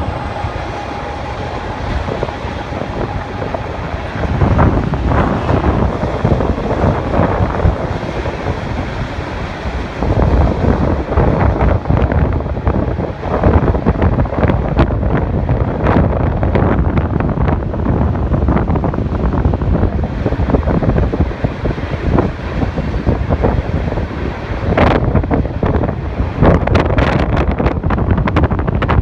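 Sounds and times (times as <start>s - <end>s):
freight train rumble: 0.0s - 29.0s
wind buffeting microphone: 0.0s - 29.0s.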